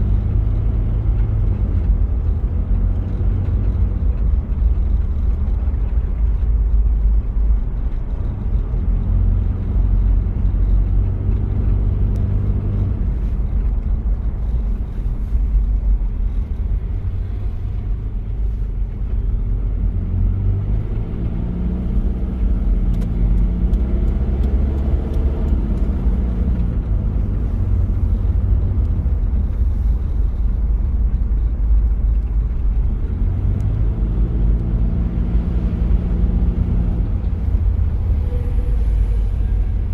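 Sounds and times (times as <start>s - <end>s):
diesel engine rumbling while driving: 0.0s - 39.9s.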